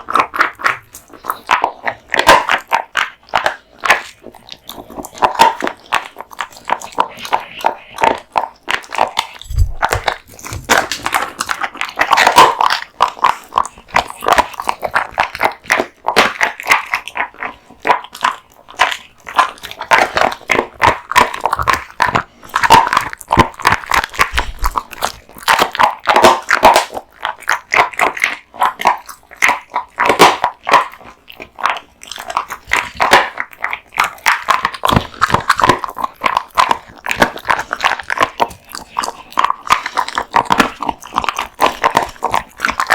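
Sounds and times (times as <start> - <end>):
dog crunching bones: 0.0 - 42.9.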